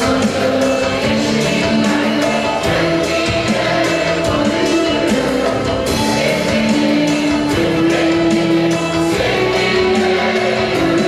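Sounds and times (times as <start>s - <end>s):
mixed choir singing: 0.0s - 11.0s
violins and ouds playing: 0.0s - 11.0s.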